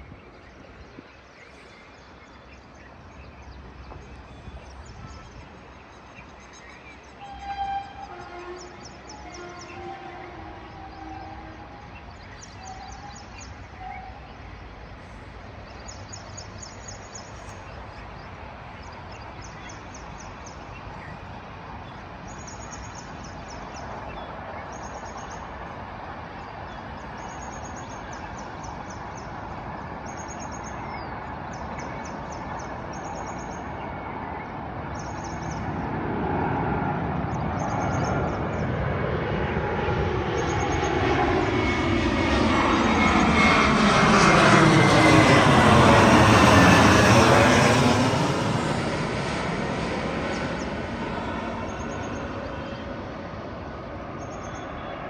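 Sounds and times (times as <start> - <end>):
airliner engine rushing: 0.0 - 55.0.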